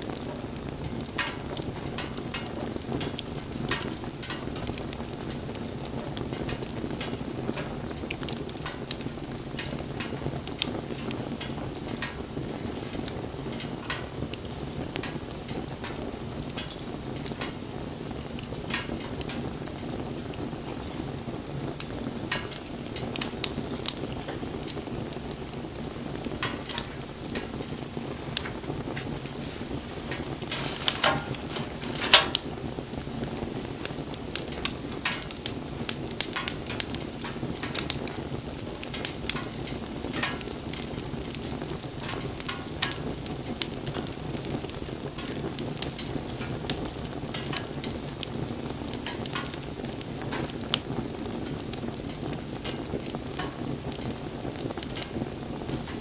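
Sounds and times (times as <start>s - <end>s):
burning wood crackling and popping: 0.0s - 56.0s
campfire flames rushing: 0.0s - 56.0s.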